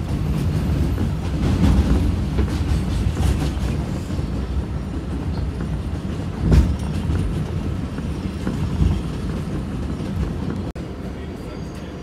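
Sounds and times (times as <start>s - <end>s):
clacks over rail joints: 0.0s - 11.9s
train wheels rumbling on rail: 0.0s - 12.0s.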